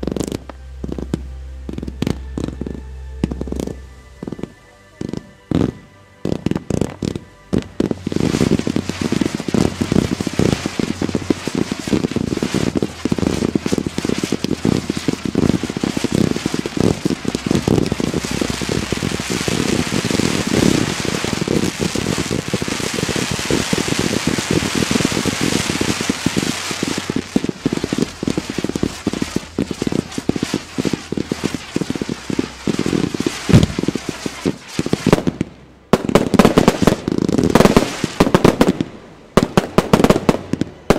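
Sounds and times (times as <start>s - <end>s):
fireworks barrage with crackle: 0.0s - 40.9s
fireworks hissing rush: 0.0s - 40.9s.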